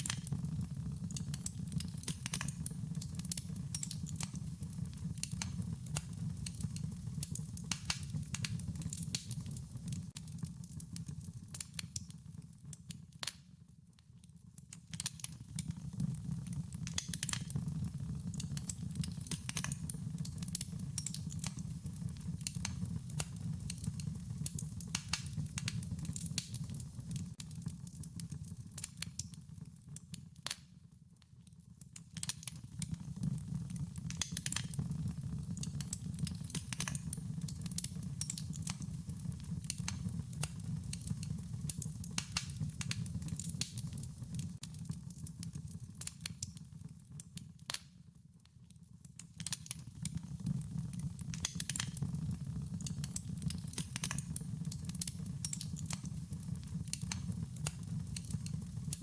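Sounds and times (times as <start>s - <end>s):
wood fire crackling: 0.0s - 48.4s, 49.1s - 59.0s.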